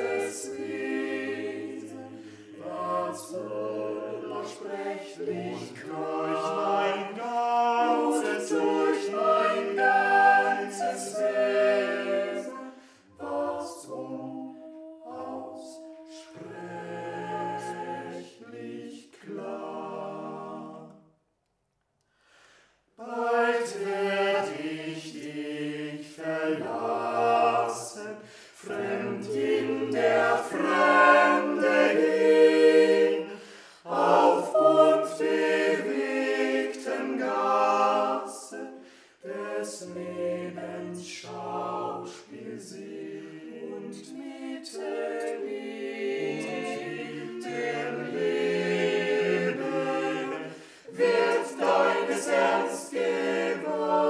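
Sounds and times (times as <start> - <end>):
young voices singing a cappella: 0.0 - 21.0, 23.0 - 54.0.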